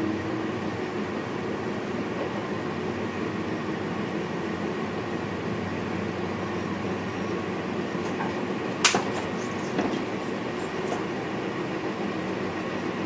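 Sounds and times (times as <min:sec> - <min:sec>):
train cab running noise: 0:00.0 - 0:13.0.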